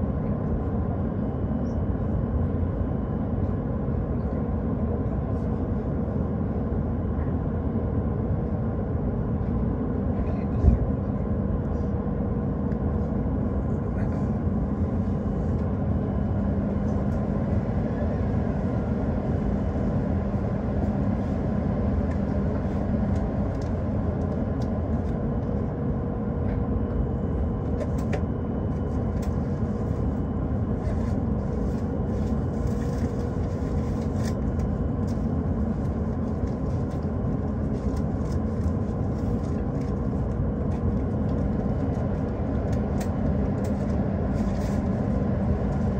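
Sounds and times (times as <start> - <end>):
constant droning tones: 0.0 - 45.9
train interior rumble: 8.5 - 45.9.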